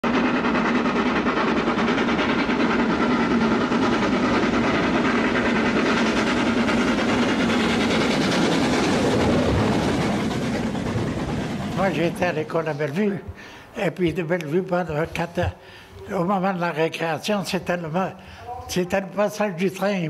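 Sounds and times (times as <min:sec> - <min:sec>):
steam locomotive working hard: 0:00.0 - 0:20.0.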